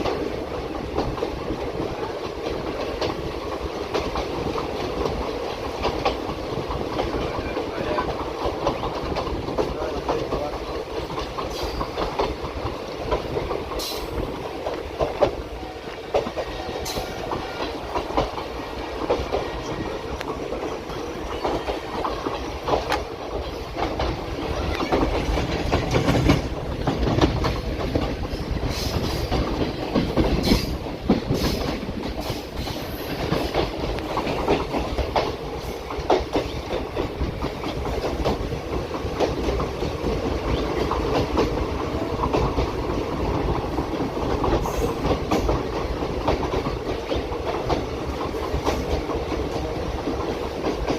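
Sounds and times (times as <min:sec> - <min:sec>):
train wheels clacking on rails: 0:00.0 - 0:50.9.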